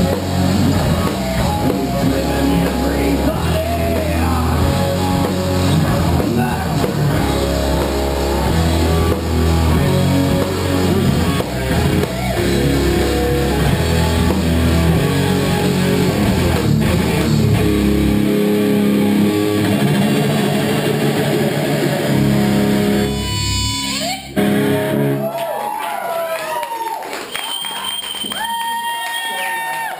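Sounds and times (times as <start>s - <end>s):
live rock band playing: 0.0s - 25.4s.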